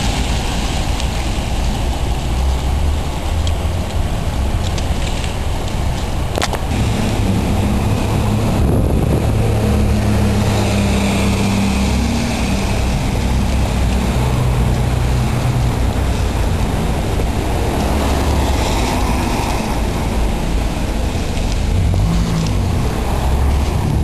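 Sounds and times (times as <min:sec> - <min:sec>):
road traffic rumbling: 0:00.0 - 0:24.0.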